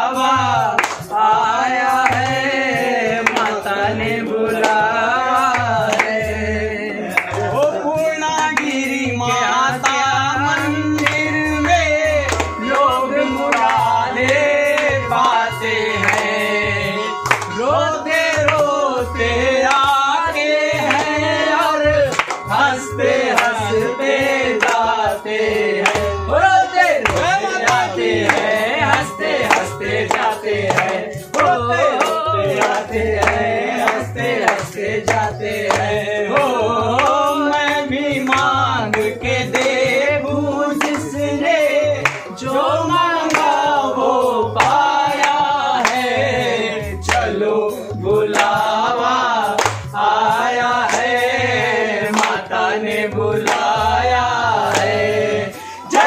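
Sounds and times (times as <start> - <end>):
men singing devotional song in chorus: 0.0 - 56.0
rhythmic hand clapping: 0.0 - 56.0.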